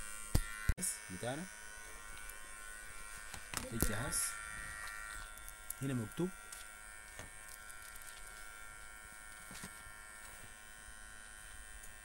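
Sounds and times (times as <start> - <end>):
faint electrical buzz: 0.0 - 12.0.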